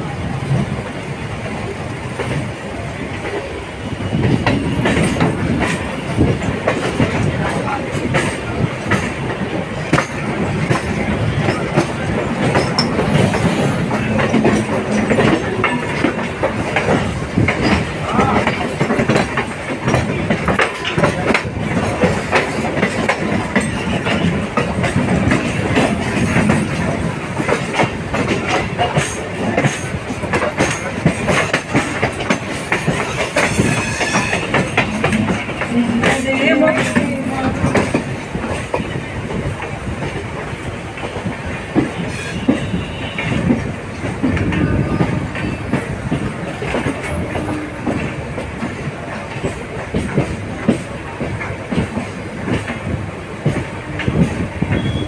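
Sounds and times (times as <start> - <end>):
train coaches rumbling past: 0.0 - 55.0
wheels clicking over rail joints: 4.1 - 55.0.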